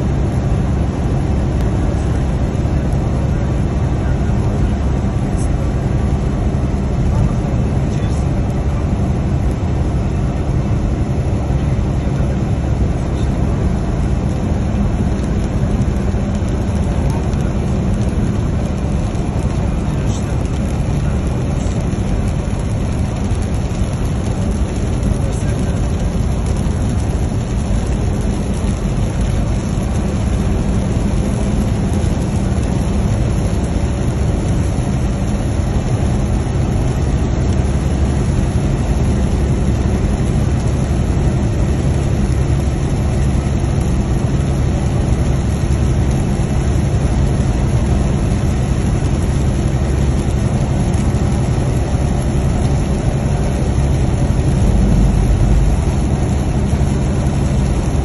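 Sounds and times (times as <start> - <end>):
low engine drone: 0.0 - 58.0
road noise on wet highway: 0.0 - 58.0.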